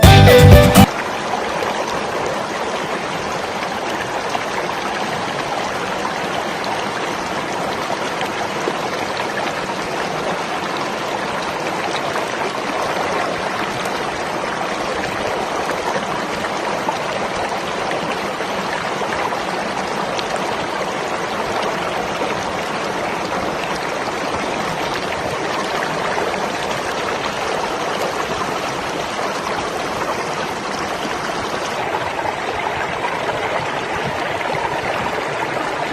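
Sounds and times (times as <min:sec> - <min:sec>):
water rushing in a stream: 0:00.8 - 0:35.9.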